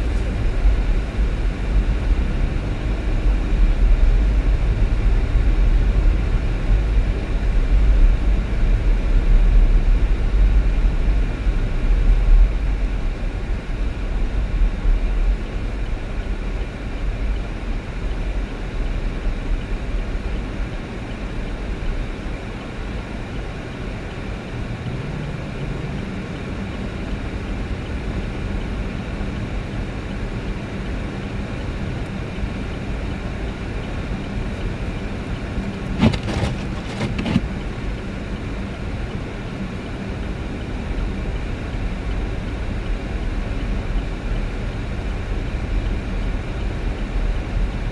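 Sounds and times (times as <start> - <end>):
vehicle engine and road noise: 0.0 - 47.9.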